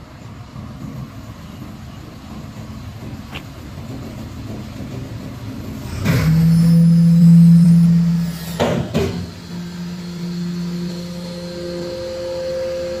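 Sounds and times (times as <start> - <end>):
garbage truck diesel engine running: 0.0 - 13.0.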